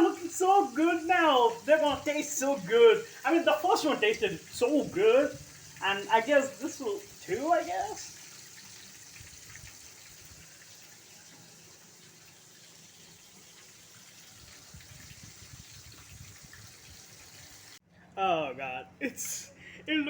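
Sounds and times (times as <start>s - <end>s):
chicken sizzling in a pan: 0.0s - 17.8s.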